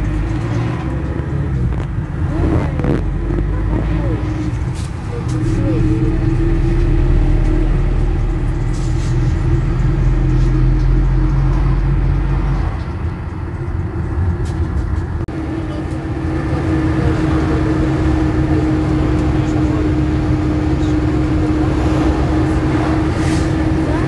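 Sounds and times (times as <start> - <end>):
minibus engine drone: 0.0 - 24.0
road and tyre noise: 0.0 - 24.0.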